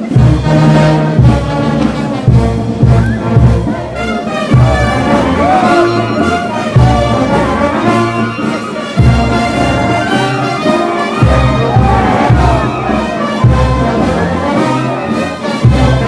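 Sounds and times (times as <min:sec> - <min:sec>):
horns playing wavering melody: 0:00.0 - 0:16.0.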